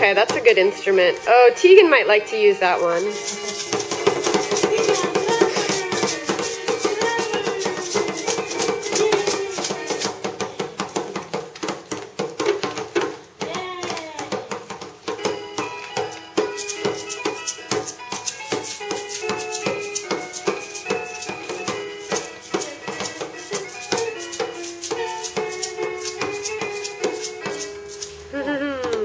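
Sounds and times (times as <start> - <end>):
piano melody: 0.0 - 11.4, 15.1 - 28.3
shaker rattling: 0.0 - 13.2, 14.2 - 28.6.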